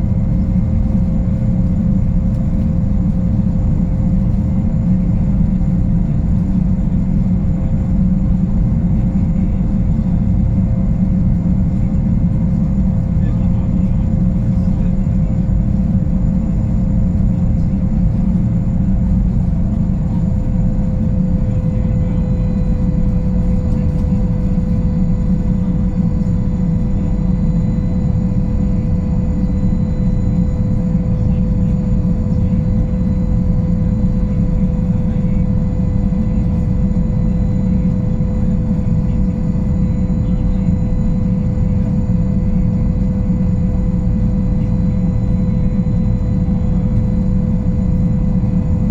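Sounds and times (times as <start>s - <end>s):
boat turbines rumbling with whine: 0.0s - 48.9s.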